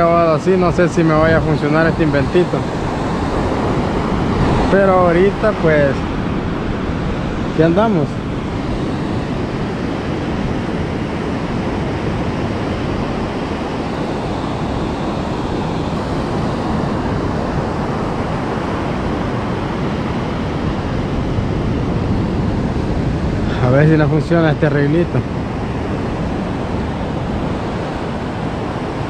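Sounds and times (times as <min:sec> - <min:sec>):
ocean surf breaking: 0:00.0 - 0:29.0
wind noise on microphone: 0:00.0 - 0:29.0.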